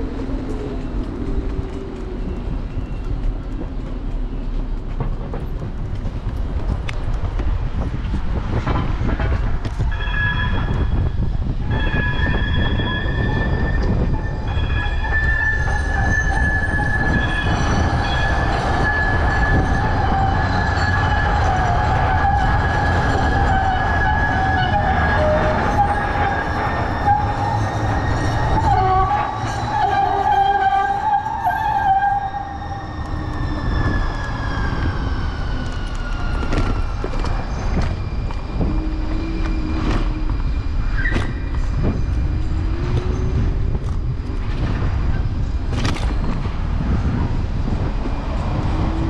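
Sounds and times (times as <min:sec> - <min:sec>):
train wheels squealing on rails: 0:00.5 - 0:04.9, 0:08.5 - 0:49.0.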